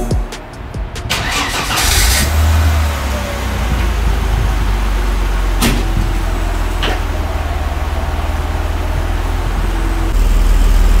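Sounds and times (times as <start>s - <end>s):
car engine idling: 1.0s - 11.0s.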